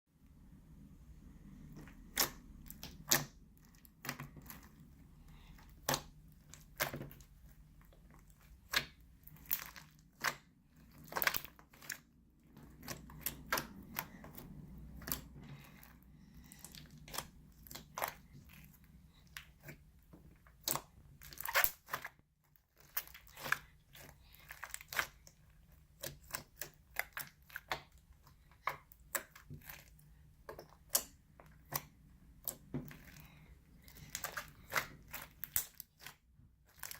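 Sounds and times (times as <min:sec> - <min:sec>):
crunchy slime crackling: 0:01.5 - 0:36.9.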